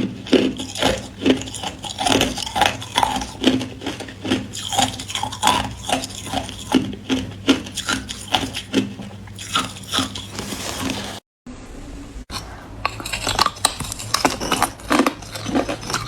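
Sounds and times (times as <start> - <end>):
ice being chewed: 0.0 - 11.2, 12.3 - 16.0.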